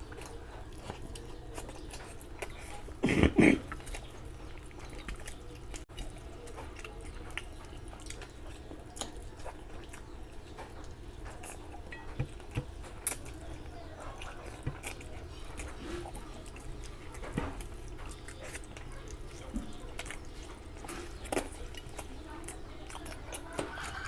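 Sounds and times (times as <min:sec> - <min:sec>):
wet chewing and lip smacks: 0:00.0 - 0:24.0.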